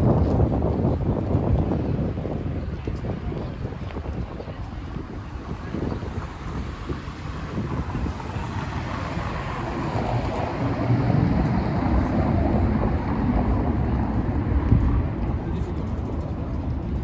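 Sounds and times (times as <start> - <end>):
low rumble of traffic: 0.0 - 17.0
wind buffeting microphone: 0.0 - 17.0.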